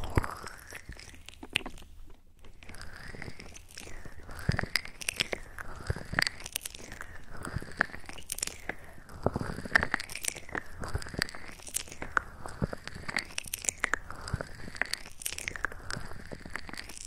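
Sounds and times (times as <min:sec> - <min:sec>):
soft clicks and crackles: 0:00.0 - 0:17.0.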